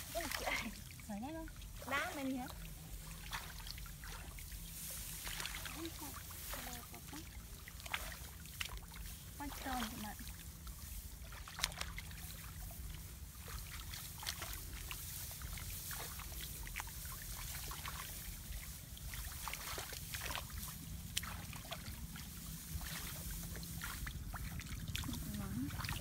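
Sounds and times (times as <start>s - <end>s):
hands sloshing in muddy water: 0.0s - 26.0s.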